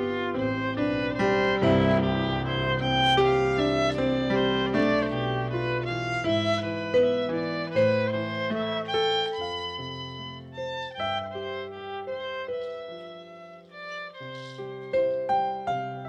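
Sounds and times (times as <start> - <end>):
violin bowed held notes: 0.0 - 15.6.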